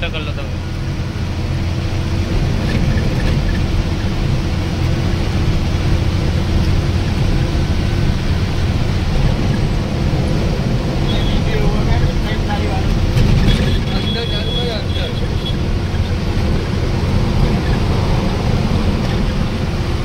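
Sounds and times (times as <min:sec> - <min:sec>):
bus engine running: 0:00.0 - 0:20.0
road rumble: 0:00.0 - 0:20.0.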